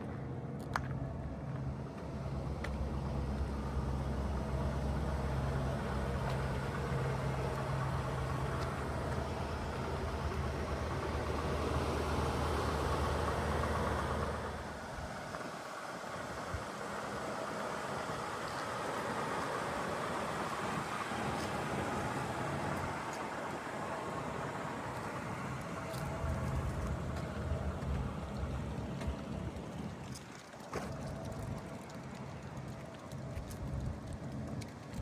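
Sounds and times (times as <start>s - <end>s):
car engine idling: 1.0s - 35.0s.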